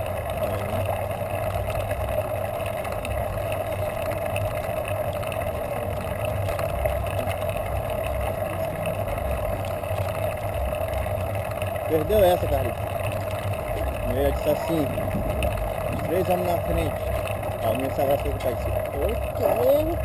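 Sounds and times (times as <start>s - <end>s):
road noise: 0.0s - 20.0s
wind rumble: 0.0s - 20.0s.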